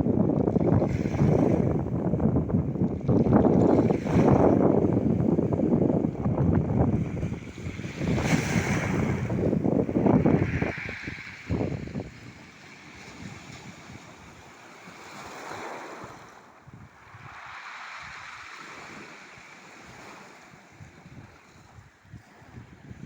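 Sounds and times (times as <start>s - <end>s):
wind gusting over microphone: 0.0s - 23.0s
sea waves washing in: 0.6s - 23.0s.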